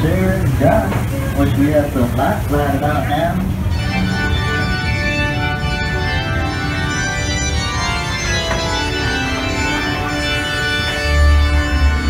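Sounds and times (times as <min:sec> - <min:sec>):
mine train rumbling on track: 0:00.0 - 0:12.0
organ playing held chords: 0:00.0 - 0:12.0.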